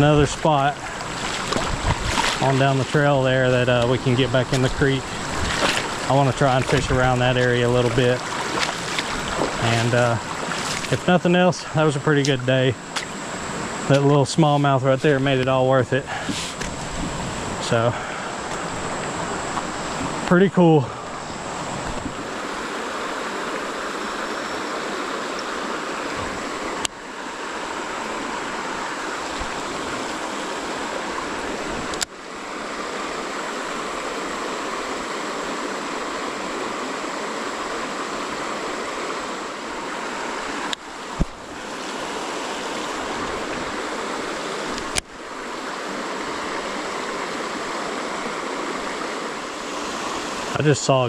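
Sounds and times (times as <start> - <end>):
water rushing over rocks: 0.0 - 51.0.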